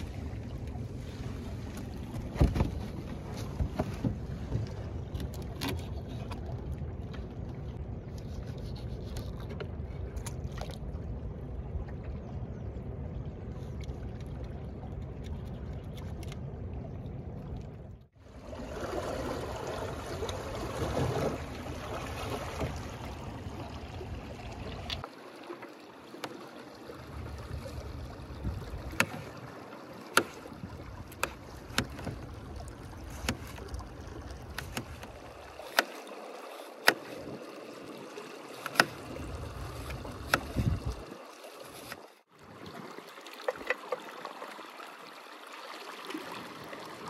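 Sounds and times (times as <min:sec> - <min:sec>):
river water lapping: 0:00.0 - 0:47.0.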